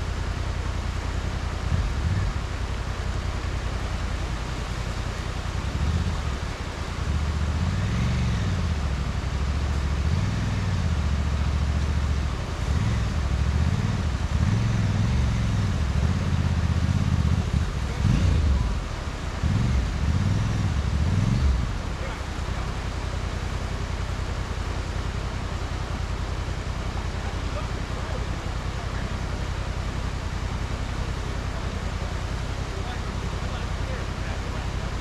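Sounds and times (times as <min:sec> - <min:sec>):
off-road engines revving: 0:00.0 - 0:35.0.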